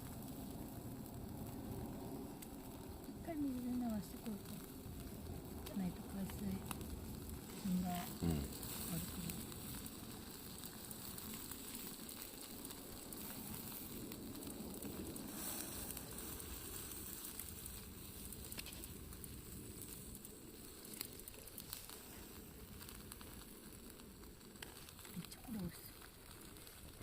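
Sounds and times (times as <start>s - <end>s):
food sizzling: 0.0s - 27.0s
small crackles and pops: 0.0s - 27.0s.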